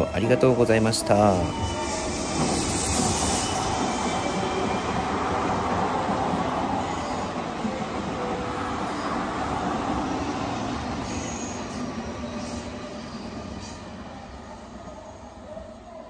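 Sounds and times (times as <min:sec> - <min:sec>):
high wheel squeal: 0:00.0 - 0:09.1, 0:10.0 - 0:15.3
train wheels rumbling on rail: 0:00.0 - 0:15.8.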